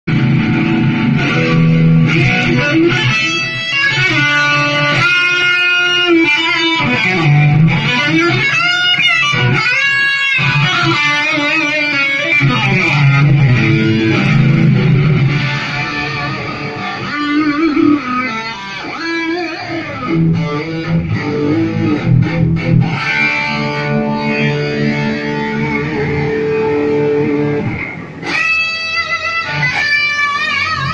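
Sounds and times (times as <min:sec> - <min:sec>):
electric guitar lead line: 0:00.0 - 0:30.9.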